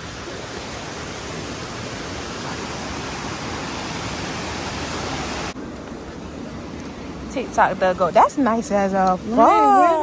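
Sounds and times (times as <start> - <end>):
water rushing in a stream: 0.0 - 10.0.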